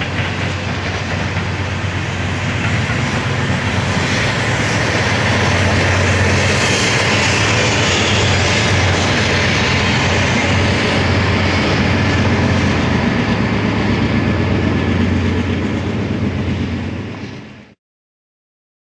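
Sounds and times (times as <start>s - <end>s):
diesel locomotive engine hum: 0.0s - 17.8s
train wheels on rails: 0.0s - 17.8s.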